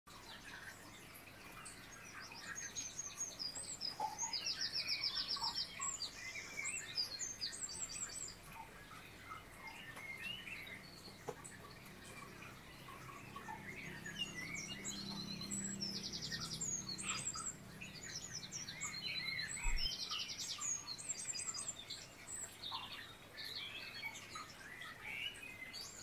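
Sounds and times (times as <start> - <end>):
small birds chirping and singing: 0.1 - 26.0.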